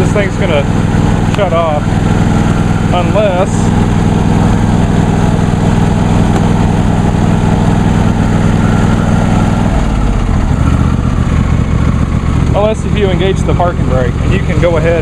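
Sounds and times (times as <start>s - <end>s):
lawn tractor engine running: 0.0s - 15.0s.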